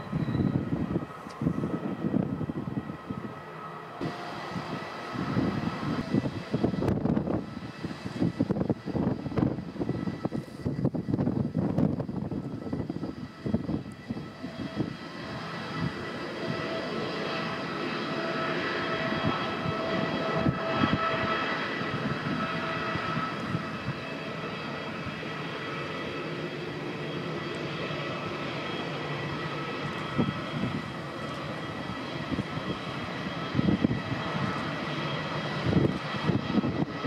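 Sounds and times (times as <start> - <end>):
jet engines at takeoff power: 0.0 - 37.0.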